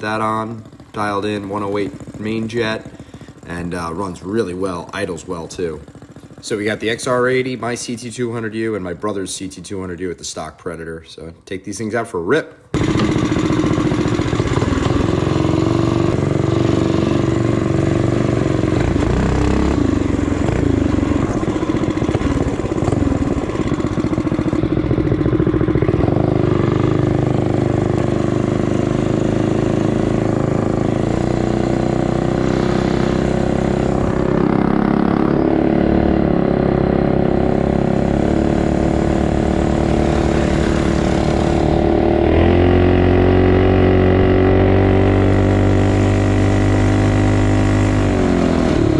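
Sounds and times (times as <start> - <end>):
motorbike engines revving: 0.0 - 8.4, 12.8 - 48.9.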